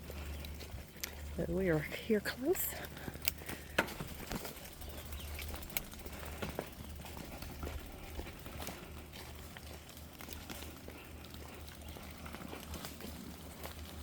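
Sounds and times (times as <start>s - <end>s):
faint footsteps on trail: 0.0s - 14.0s.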